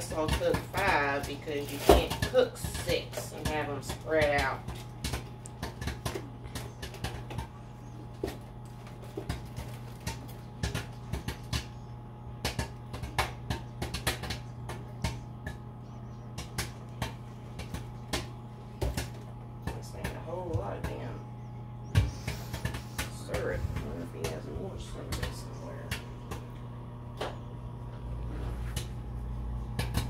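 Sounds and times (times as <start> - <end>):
popcorn popping in a bag: 0.0 - 27.8, 28.8 - 30.0
microwave oven humming: 0.0 - 30.0.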